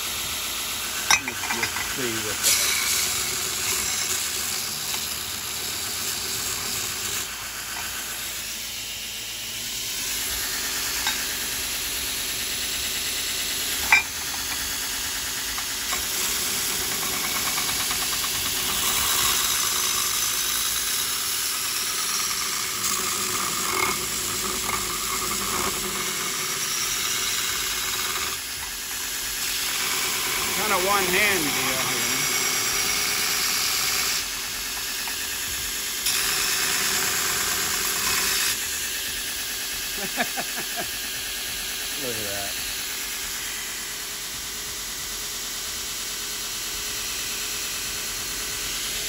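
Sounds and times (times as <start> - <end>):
belt grinder grinding steel: 0.6 - 44.4.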